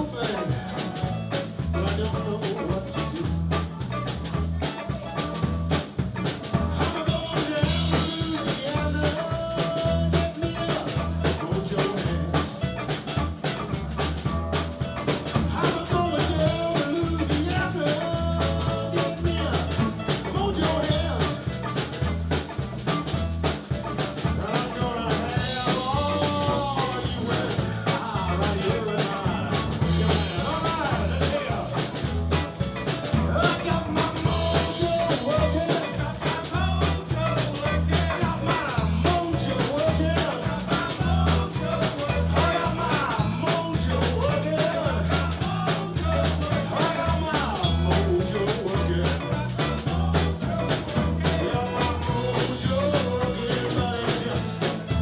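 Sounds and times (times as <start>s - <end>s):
drums: 0.0s - 55.0s
electric bass: 0.0s - 55.0s
electric guitar lead: 0.0s - 55.0s
keyboard: 0.0s - 55.0s.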